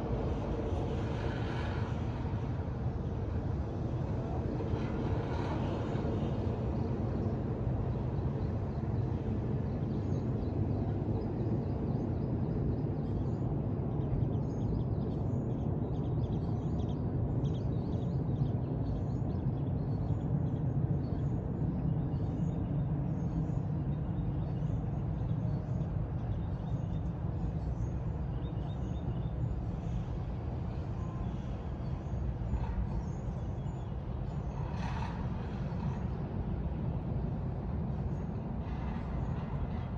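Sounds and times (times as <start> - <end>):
gondola low rumble: 0.0 - 15.3, 17.4 - 39.9.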